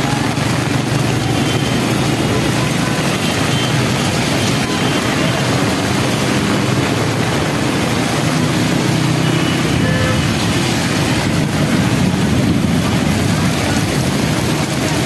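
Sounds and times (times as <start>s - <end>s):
heavy rain pouring: 0.0s - 15.0s
motorbikes passing on wet road: 0.0s - 15.0s.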